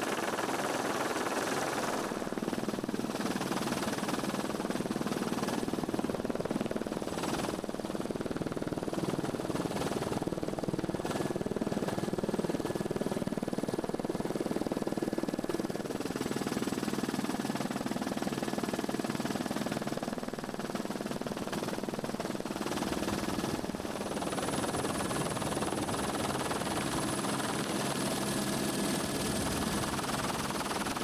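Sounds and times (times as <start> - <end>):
helicopter turbine and rotor noise: 0.0 - 31.0.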